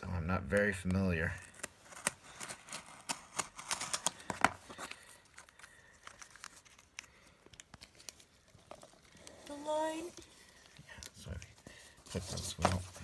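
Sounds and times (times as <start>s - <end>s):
cellophane wrapper crinkling and tearing: 0.4s - 12.9s.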